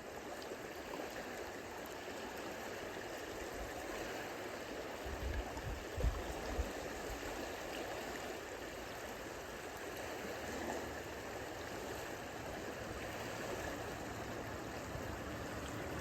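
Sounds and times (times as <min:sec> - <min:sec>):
small waves lapping at shore: 0:00.0 - 0:16.0.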